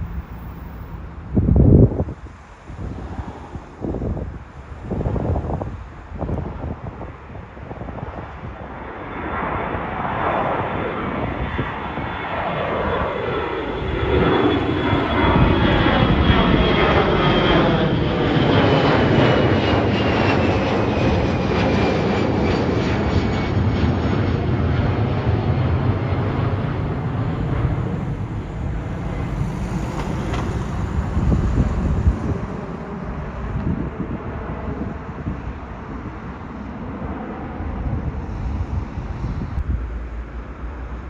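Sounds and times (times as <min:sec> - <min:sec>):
jet engines passing: 0:00.0 - 0:41.0.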